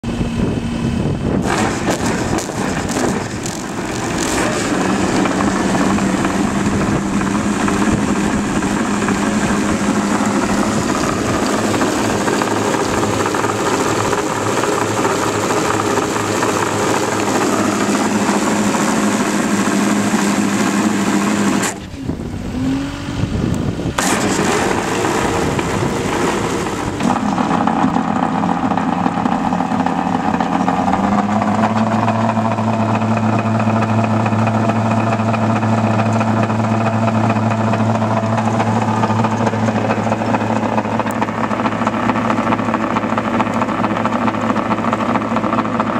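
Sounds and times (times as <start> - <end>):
skid steer engine running: 0.0 - 45.9.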